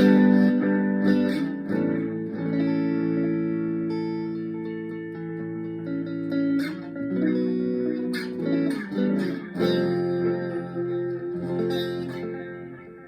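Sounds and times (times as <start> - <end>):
electric guitar with delay echo: 0.0 - 13.0.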